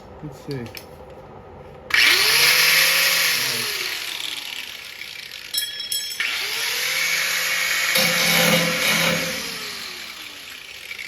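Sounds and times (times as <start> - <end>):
grinder cutting steel: 1.9 - 11.0.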